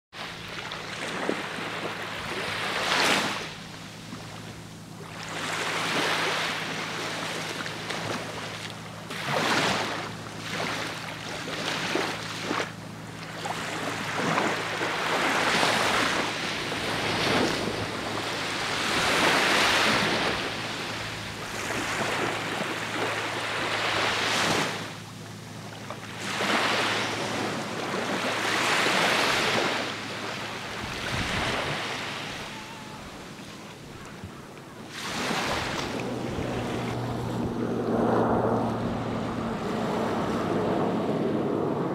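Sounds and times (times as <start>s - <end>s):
small waves washing up a beach: 0.1s - 41.9s
steady low hum: 0.2s - 41.9s.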